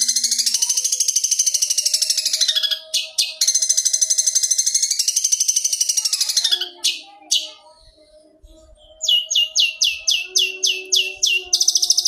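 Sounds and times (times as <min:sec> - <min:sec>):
bird high-pitched trill: 0:00.0 - 0:07.8, 0:08.7 - 0:12.0.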